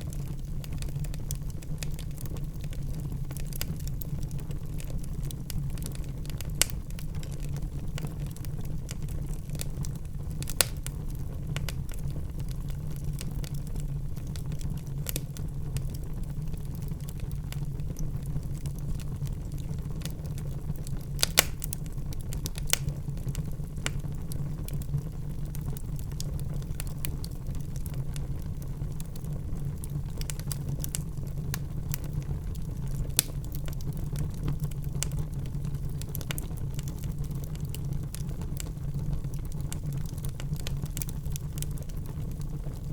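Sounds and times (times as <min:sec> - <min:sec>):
fire crackles and pops: 0:00.0 - 0:42.9
wood fire rumbling: 0:00.0 - 0:42.9.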